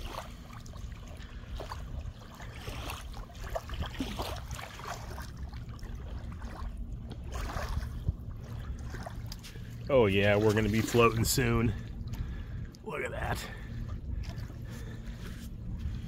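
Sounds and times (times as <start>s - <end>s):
small waves lapping on shore: 0.0s - 16.0s
low rumble: 0.4s - 16.0s.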